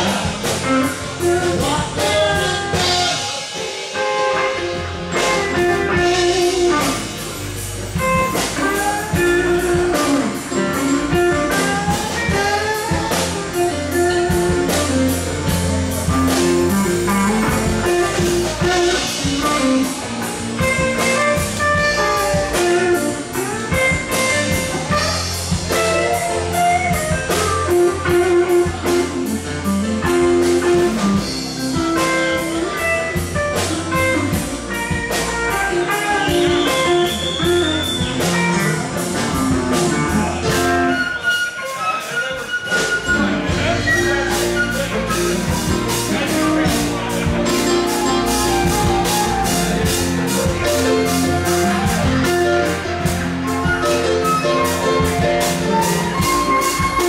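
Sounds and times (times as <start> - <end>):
low bass line: 0.0 - 3.2, 4.5 - 40.9, 43.1 - 57.0
drum kit beat: 0.0 - 57.0
electric guitar lead: 0.0 - 57.0.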